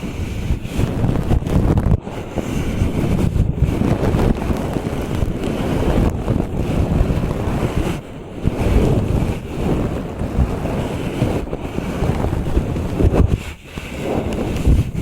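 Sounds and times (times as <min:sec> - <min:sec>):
brush rustling on microphone: 0:00.0 - 0:15.0.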